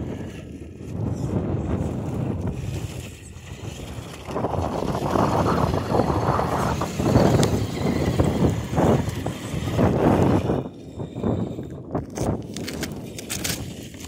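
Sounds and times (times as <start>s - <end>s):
rc car driving on gravel: 0.0s - 14.0s
wind buffeting microphone: 0.0s - 14.0s.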